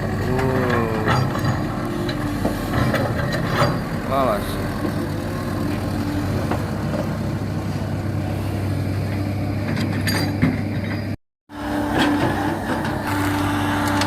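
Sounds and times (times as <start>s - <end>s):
diesel engines running: 0.0s - 14.0s.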